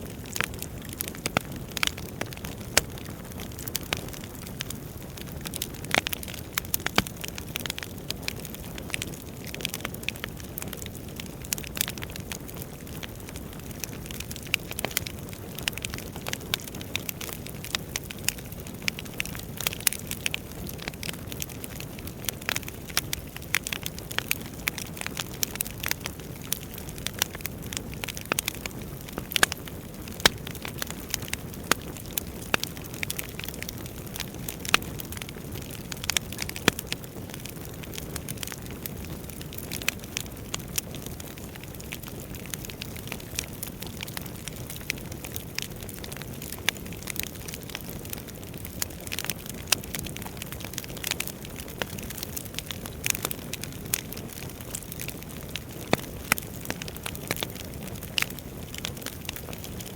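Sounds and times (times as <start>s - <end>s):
logs crackling and popping: 0.0s - 59.9s.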